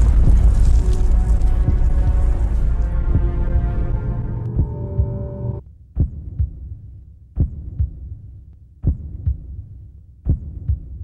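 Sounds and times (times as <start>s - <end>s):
heartbeat thumps: 0.0s - 3.8s, 4.4s - 11.0s.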